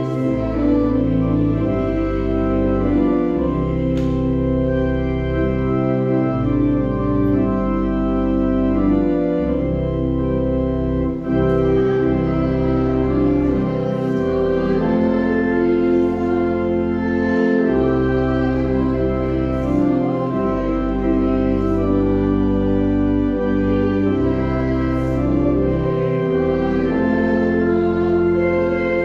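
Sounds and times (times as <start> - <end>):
church organ slow chords: 0.0 - 29.0.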